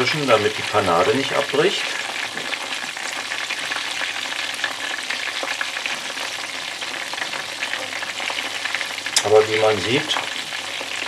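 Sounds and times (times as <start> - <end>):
chicken frying in hot oil: 0.0 - 11.0.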